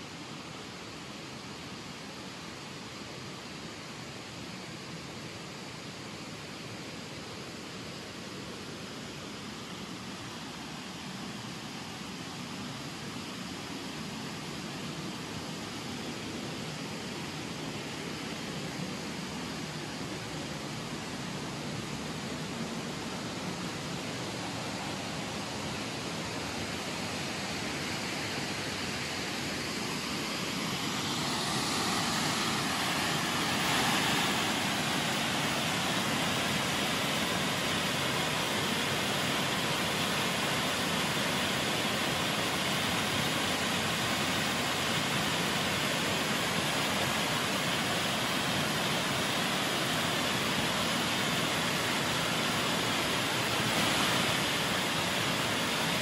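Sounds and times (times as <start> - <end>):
rushing river roar: 0.0 - 56.0.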